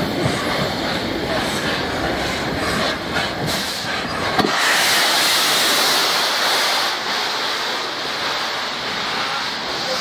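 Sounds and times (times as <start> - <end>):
steam locomotive hissing steam: 0.0 - 10.0.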